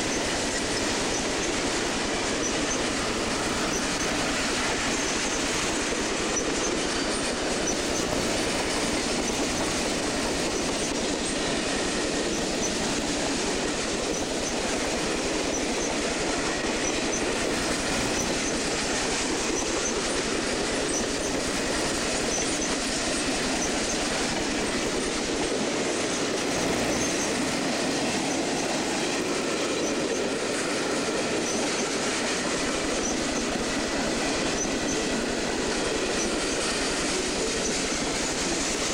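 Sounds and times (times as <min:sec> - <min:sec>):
train wheels rolling on track: 0:00.0 - 0:38.9.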